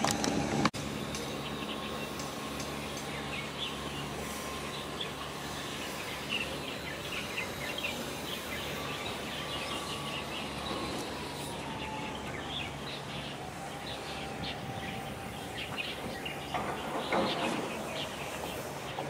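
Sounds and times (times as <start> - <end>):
small birds chirping: 0.8 - 19.0.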